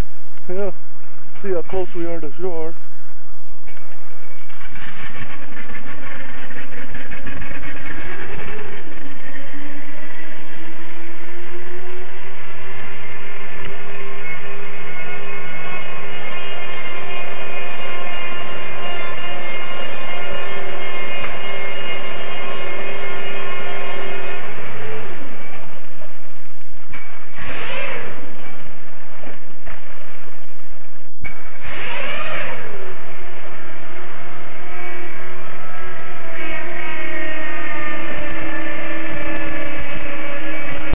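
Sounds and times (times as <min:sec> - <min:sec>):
motor running: 0:04.4 - 0:29.3, 0:31.5 - 0:40.9.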